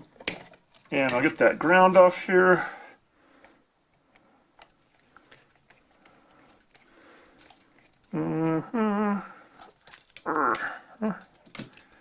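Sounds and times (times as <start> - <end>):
hand tools clicking and scraping: 0.0 - 2.7, 4.1 - 8.6, 9.5 - 12.0.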